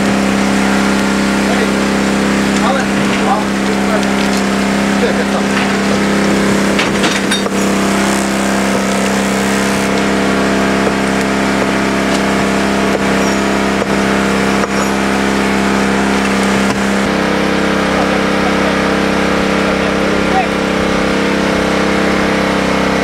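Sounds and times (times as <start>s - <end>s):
small engine running under load: 0.0s - 23.0s.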